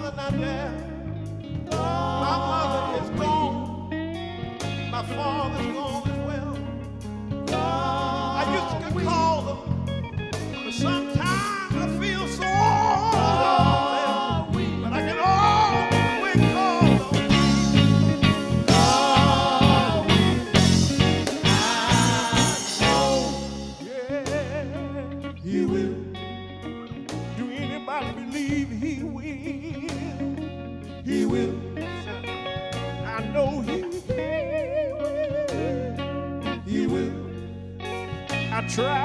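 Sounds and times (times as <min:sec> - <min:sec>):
vocal quartet singing: 0:00.0 - 0:06.5, 0:07.3 - 0:10.0, 0:10.6 - 0:32.3, 0:33.0 - 0:37.8
band with guitars and drums: 0:00.0 - 0:39.0.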